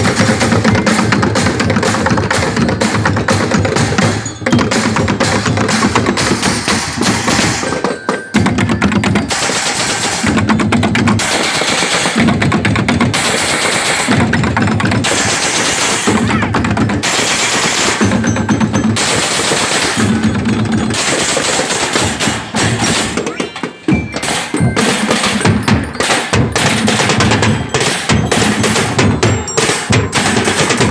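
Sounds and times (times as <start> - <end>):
plastic barrel drums beaten: 0.0 - 30.9.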